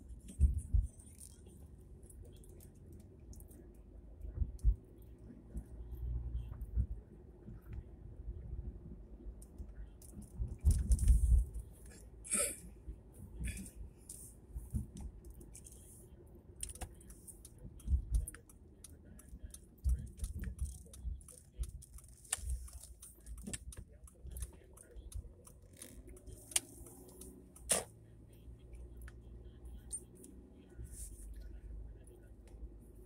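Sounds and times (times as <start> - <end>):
car rumble while driving: 0.0 - 33.0.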